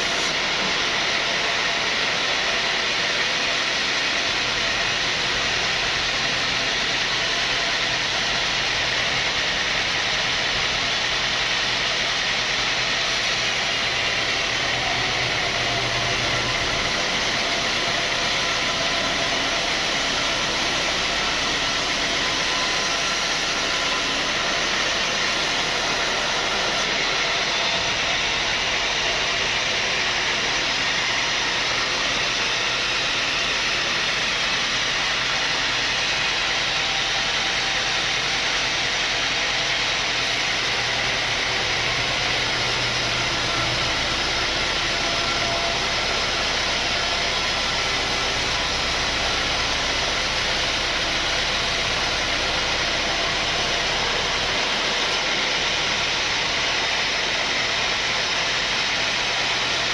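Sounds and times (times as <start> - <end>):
sawmill saw hissing: 0.0 - 59.9.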